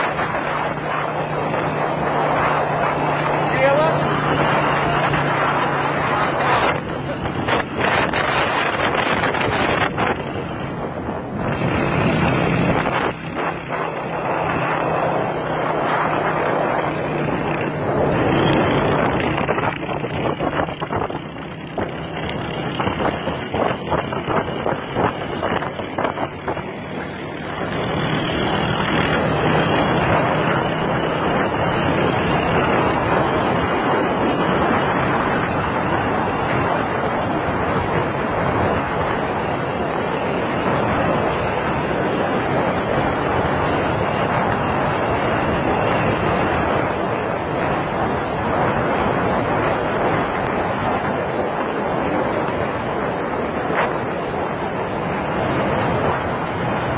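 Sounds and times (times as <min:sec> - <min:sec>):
motorcycle engine drone: 0:00.0 - 0:56.9
wind buffeting microphone: 0:00.0 - 0:56.9.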